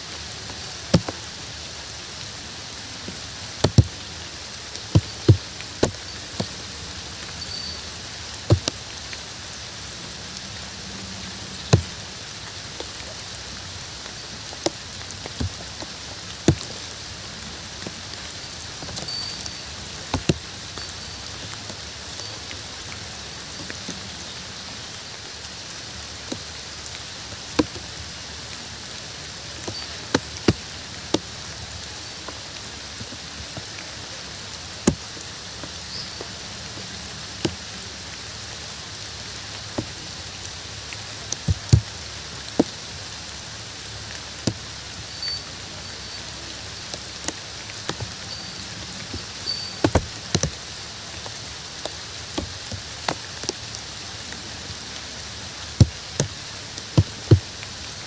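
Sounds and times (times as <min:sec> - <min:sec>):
close raindrops striking: 0:00.0 - 0:58.0
steady rain: 0:00.0 - 0:58.0.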